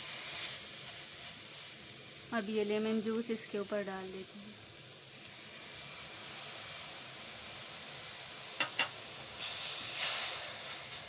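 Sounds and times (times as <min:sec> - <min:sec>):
noodles sizzling in a pan: 0:00.0 - 0:11.0.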